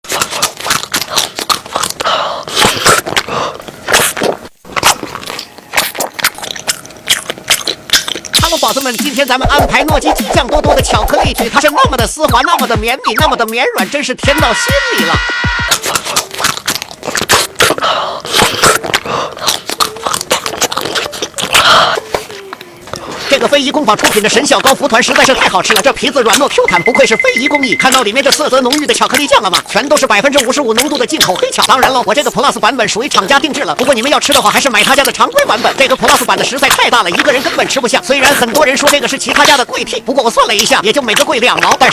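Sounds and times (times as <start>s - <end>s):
wet chewing: 0.0s - 13.0s, 15.7s - 41.9s
crunchy bites: 0.1s - 9.3s, 15.0s - 26.7s, 27.8s - 41.9s.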